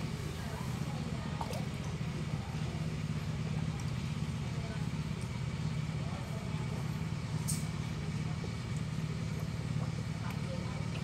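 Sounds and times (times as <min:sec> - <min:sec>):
fish splashing in water: 0:00.0 - 0:11.0
steady low hum: 0:00.0 - 0:11.0.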